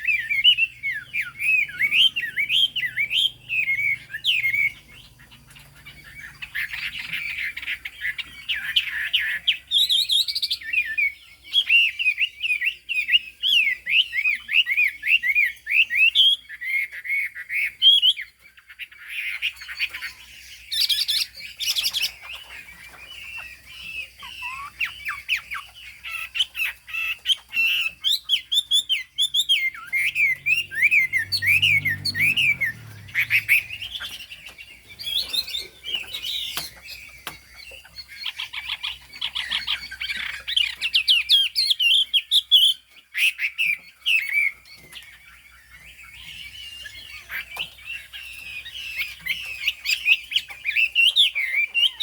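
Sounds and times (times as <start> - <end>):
bird singing rapid whistled notes: 0.0 - 52.0.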